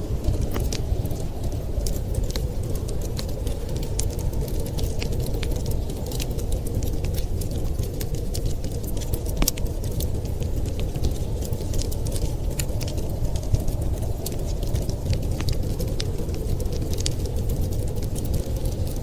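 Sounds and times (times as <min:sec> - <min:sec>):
steady low rumble: 0:00.0 - 0:19.0
wood fire crackling: 0:00.0 - 0:19.0.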